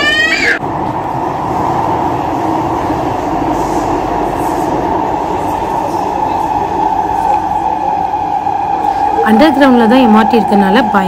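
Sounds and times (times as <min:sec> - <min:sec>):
metro train running in tunnel: 0:00.0 - 0:11.0.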